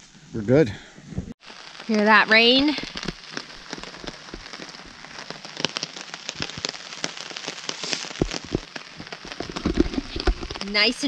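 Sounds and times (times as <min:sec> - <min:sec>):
rain on a tarp: 0:01.4 - 0:11.0.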